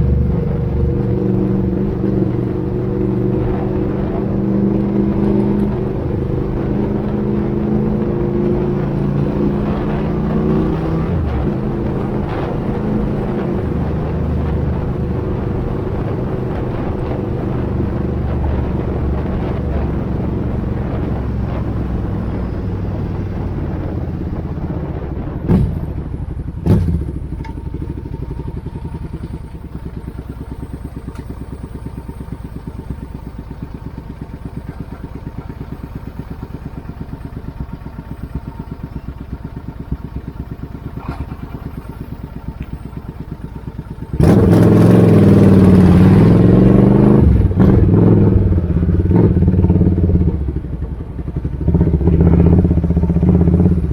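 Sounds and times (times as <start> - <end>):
exhaust bangs: 0.0 - 53.9
motorcycle engine pulsing: 0.0 - 53.9.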